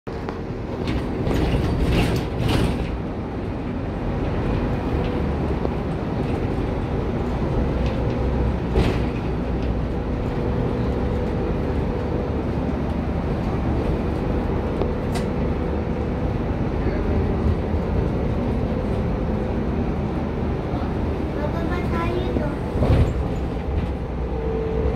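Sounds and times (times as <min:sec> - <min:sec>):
boat engine rumbling: 0:00.1 - 0:24.9.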